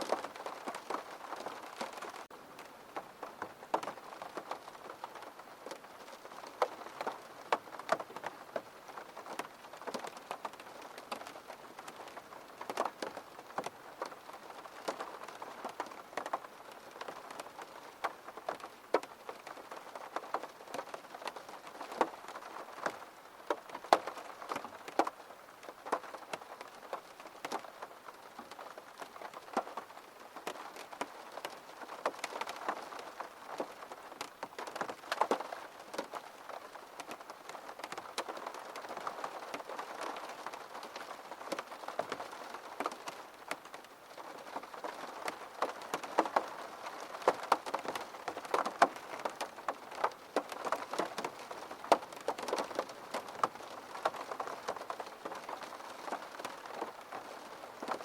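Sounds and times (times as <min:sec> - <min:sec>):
rain drops ticking on hard surface: 0:00.0 - 0:58.0.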